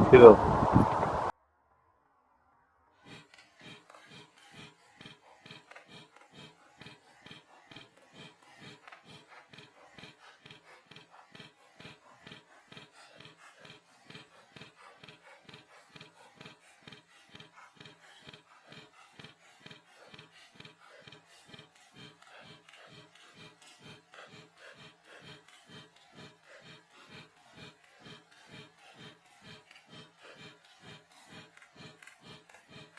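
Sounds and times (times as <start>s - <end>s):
faint panting: 3.1s - 32.9s.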